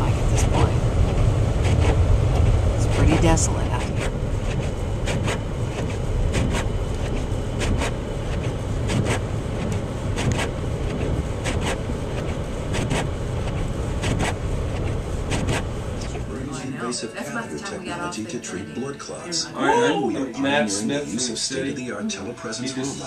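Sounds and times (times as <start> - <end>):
car engine and road rumble: 0.0 - 18.9.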